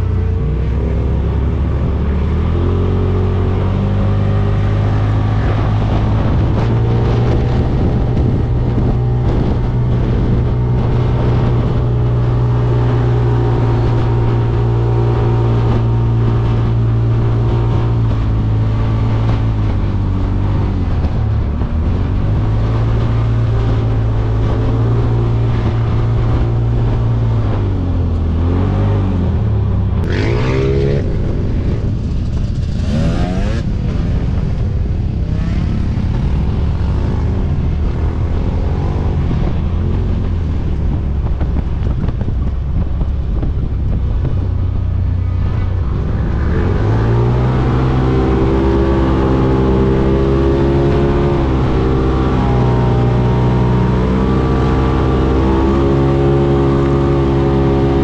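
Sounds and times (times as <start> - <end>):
utv engine running hard: 0.0 - 58.0
wind noise: 0.0 - 58.0.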